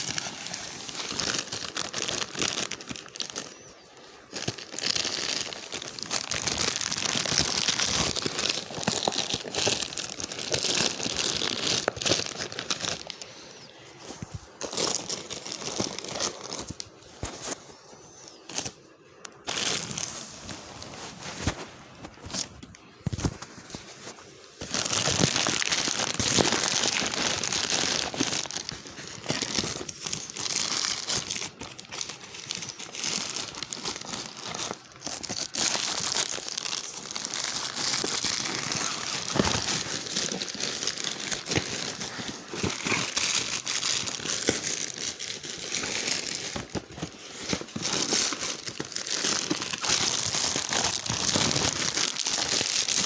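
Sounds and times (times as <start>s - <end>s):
packaging crinkling and tearing: 0.0s - 53.0s.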